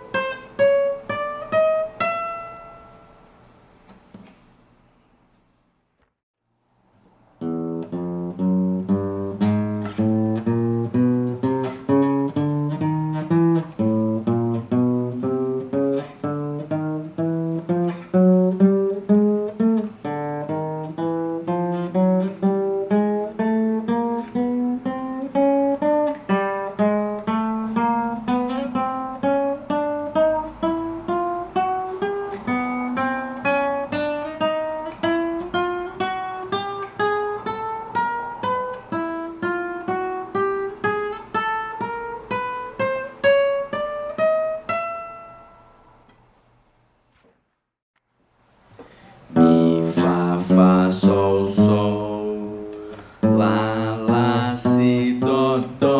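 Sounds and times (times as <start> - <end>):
acoustic guitar plucking notes: 0.0 - 4.5, 7.4 - 46.3, 48.6 - 55.9.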